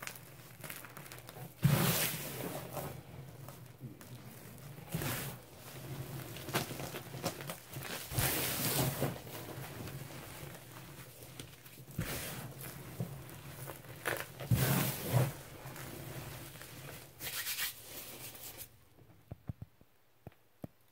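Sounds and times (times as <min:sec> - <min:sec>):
crunchy rustling of falling powder: 0:00.0 - 0:18.8.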